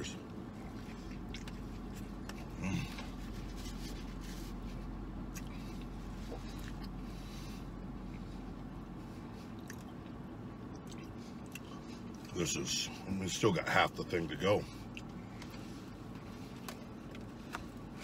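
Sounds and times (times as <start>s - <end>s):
man chewing food: 0.2s - 12.3s, 14.8s - 18.0s.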